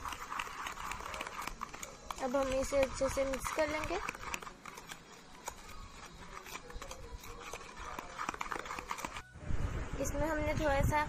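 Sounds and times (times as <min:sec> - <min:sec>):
spoon scraping plastic bowl: 0:00.0 - 0:09.3.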